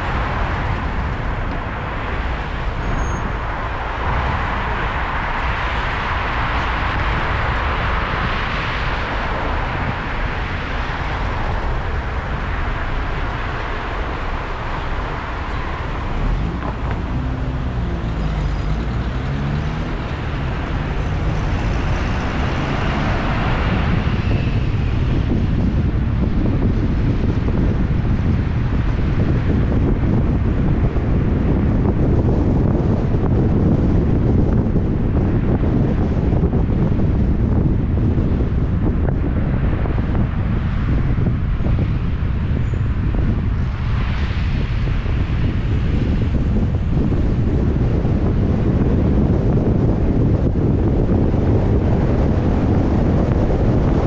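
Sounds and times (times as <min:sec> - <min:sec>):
car engine and road noise: 0:00.0 - 0:54.0
passing traffic: 0:00.0 - 0:54.0.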